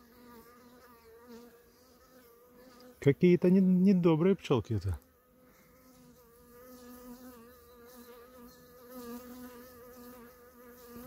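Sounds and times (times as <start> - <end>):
honeybee buzzing: 0.0 - 11.0.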